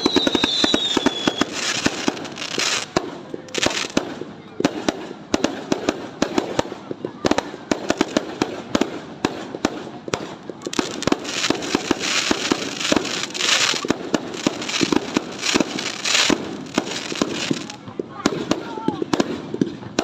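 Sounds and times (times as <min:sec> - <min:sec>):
fireworks crackling hiss: 0:00.0 - 0:19.9
fireworks bangs: 0:00.0 - 0:20.0.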